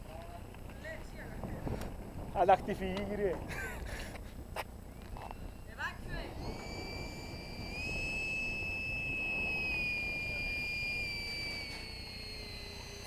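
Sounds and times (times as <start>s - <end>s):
electric ducted fan whine: 0.0s - 13.0s.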